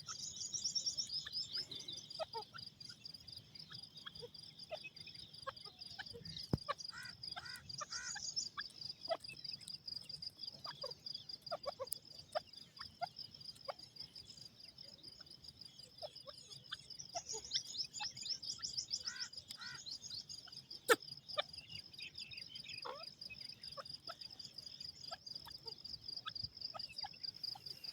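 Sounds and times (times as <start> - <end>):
insect trill: 0.0 - 27.9.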